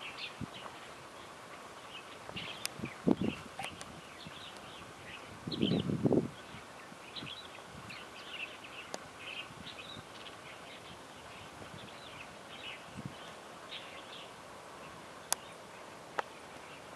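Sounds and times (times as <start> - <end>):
background hiss: 0.0 - 16.9
small birds chirping: 0.0 - 16.9.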